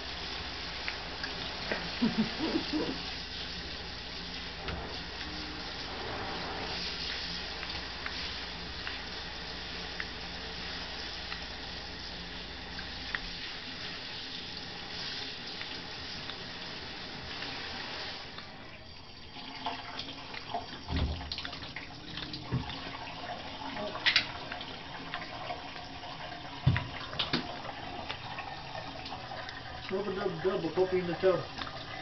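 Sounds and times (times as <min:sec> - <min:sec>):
faucet running into tub: 0:00.0 - 0:32.0.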